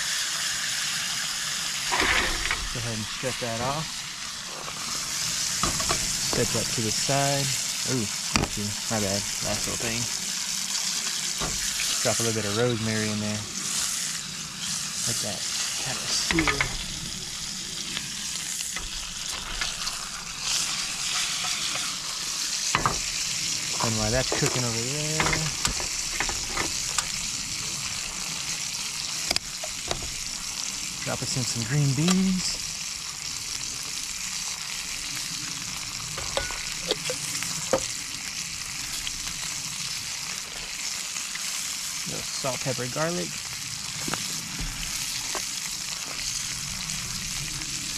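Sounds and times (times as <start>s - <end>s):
steak sizzling in a skillet: 0.0s - 47.9s.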